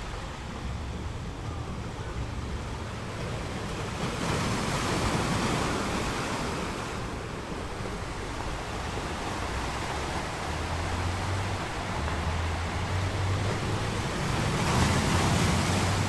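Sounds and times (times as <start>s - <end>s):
ocean surf washing in: 0.0s - 16.0s.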